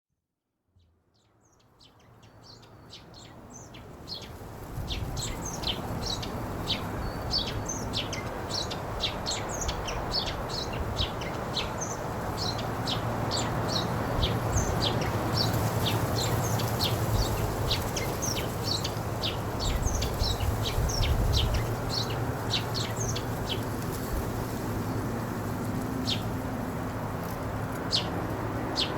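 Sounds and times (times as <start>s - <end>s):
small birds chirping: 1.1s - 25.2s, 25.8s - 26.4s, 27.8s - 28.9s.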